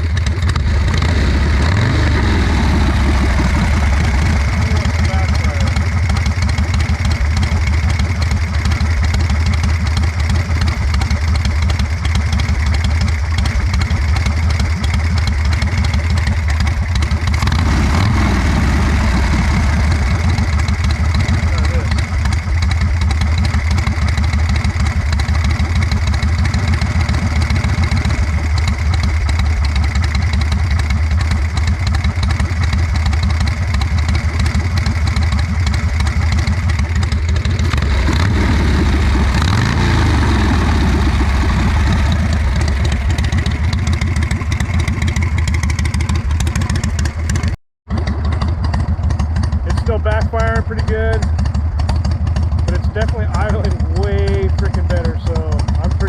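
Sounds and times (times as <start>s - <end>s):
motorcycle engine idling: 0.0s - 56.0s
motorcycle engine revving: 0.0s - 56.0s.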